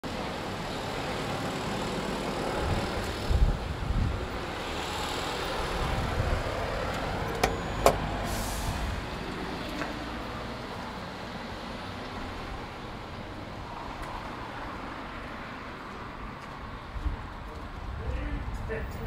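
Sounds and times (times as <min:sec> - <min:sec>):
low traffic hum: 0:00.0 - 0:19.0.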